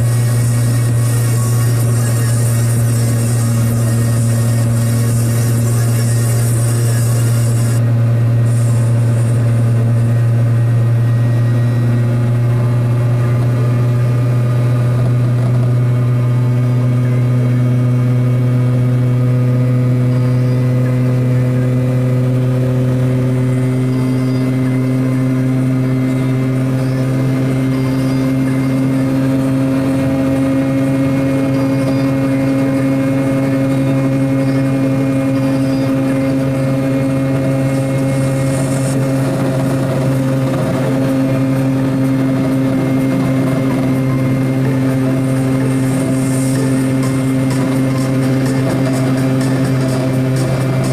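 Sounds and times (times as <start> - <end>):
small two-stroke engine running: 0.0 - 50.9.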